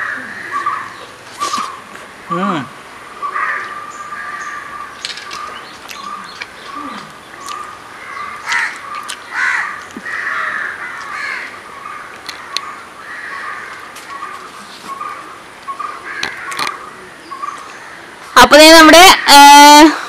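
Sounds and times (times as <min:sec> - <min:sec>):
crows cawing: 0:00.0 - 0:01.8, 0:03.2 - 0:18.2.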